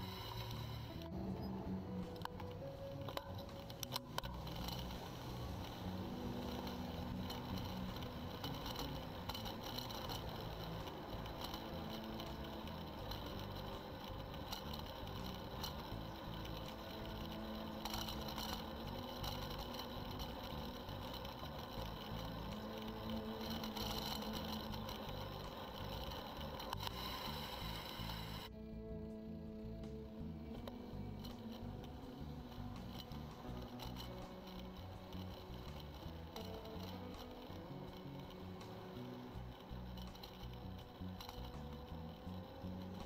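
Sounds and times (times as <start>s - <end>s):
bike mechanical chatter: 0.0s - 43.0s
bike ticks: 0.0s - 43.0s
bike tyres rolling: 0.0s - 43.0s.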